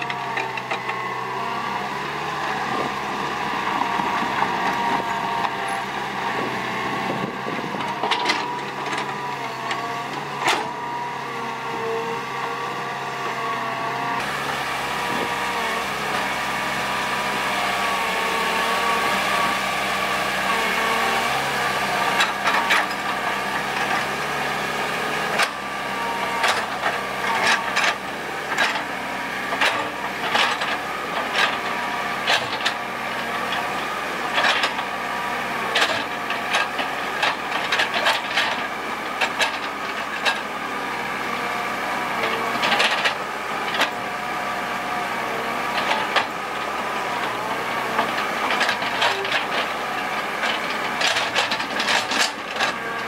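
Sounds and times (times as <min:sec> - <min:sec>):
excavator diesel engine whine: 0:00.0 - 0:53.0.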